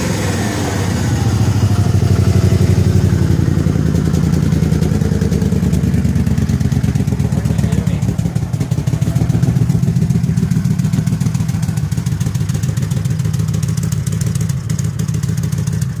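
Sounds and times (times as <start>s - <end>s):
car engine idling choppily: 0.0s - 16.0s.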